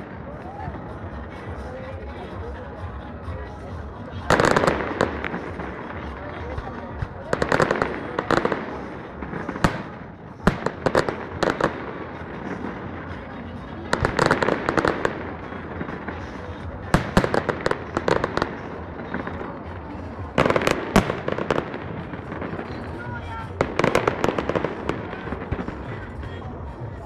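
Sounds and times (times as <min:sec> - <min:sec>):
fireworks bangs and crackling bursts: 0:04.1 - 0:26.9.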